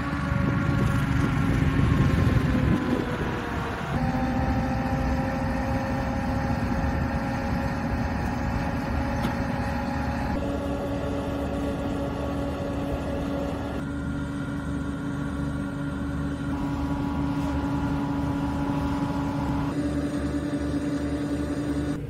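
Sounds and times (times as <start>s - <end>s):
truck engines idling: 0.0s - 22.0s.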